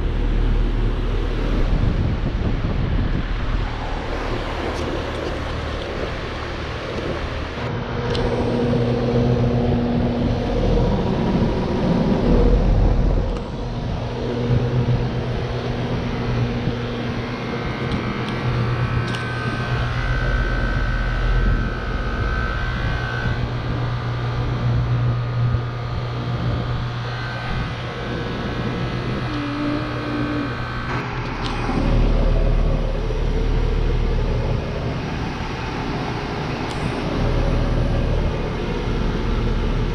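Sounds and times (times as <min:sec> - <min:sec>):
compressor low hum: 0:00.0 - 0:39.9
condenser fans rushing: 0:00.0 - 0:39.9.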